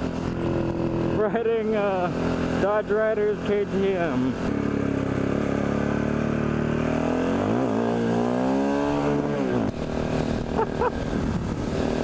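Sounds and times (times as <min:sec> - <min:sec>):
motorcycle engine pulling: 0:00.0 - 0:12.0.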